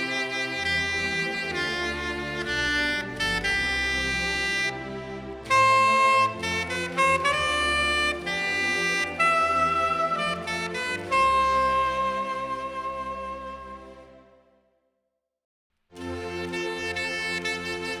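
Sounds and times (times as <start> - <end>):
soprano saxophone hymn melody: 0.0 - 14.4, 16.0 - 18.0.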